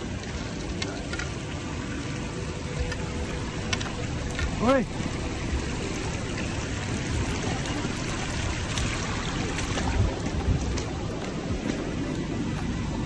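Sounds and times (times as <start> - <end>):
footsteps splashing through water: 0.0 - 13.0
water rushing over stones: 0.0 - 13.0.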